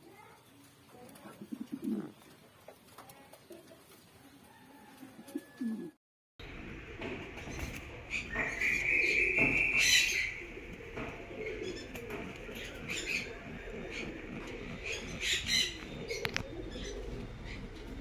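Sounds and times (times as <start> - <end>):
pigeons cooing: 1.1 - 2.3, 4.6 - 18.0.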